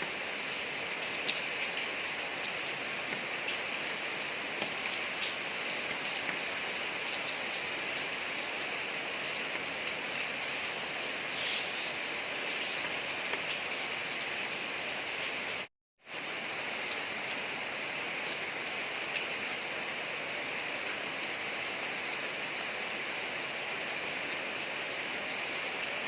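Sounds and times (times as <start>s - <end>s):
rain falling on a street: 0.0s - 26.0s.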